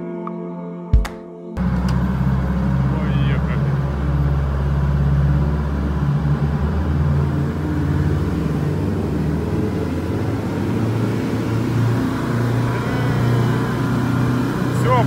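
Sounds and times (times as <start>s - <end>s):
boat engine droning: 1.6s - 15.0s.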